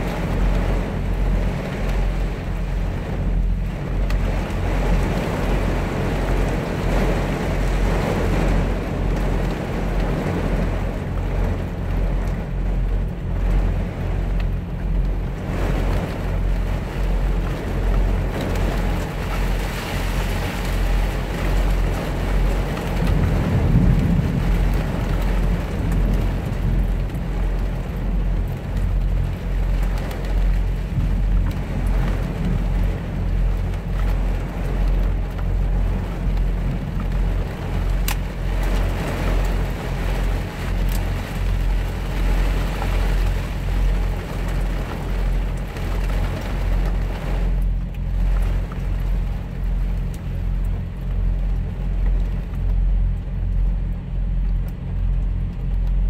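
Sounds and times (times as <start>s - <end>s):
rain on truck cab: 0.0s - 56.0s.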